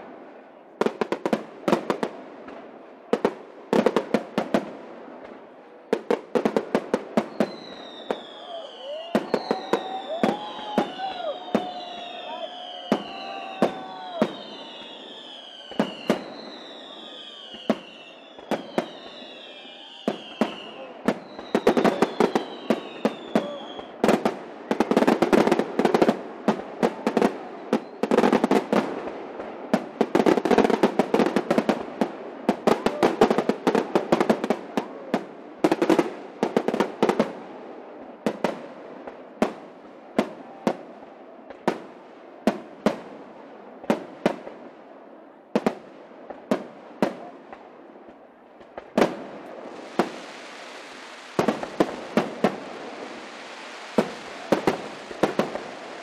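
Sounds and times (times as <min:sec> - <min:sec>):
fireworks crackling: 0:00.0 - 0:44.8, 0:45.4 - 0:56.0.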